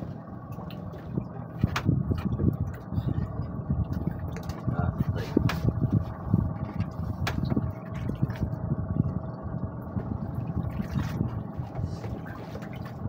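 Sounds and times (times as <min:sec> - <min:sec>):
boat engine running: 0:00.0 - 0:13.0
choppy low rumble: 0:00.0 - 0:13.0.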